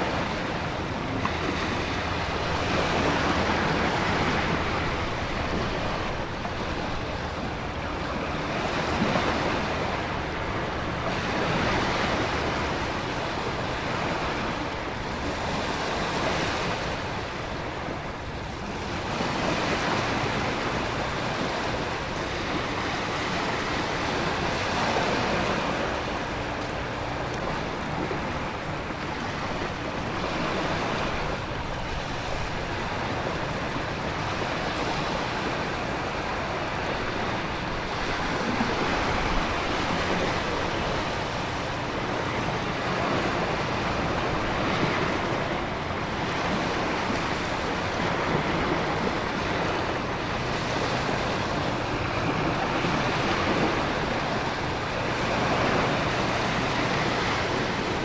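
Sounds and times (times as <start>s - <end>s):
ocean surf: 0.0s - 58.0s
wind: 0.0s - 58.0s.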